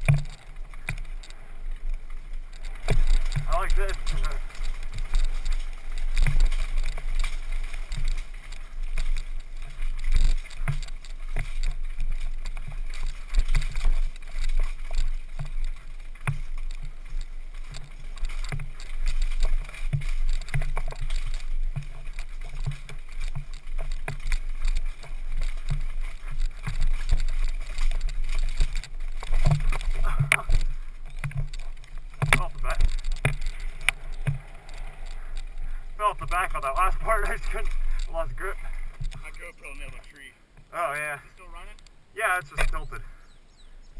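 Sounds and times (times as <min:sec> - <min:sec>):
wind rumbling on microphone: 0:00.0 - 0:40.8
mountain bike rattling over rocks: 0:00.0 - 0:43.9.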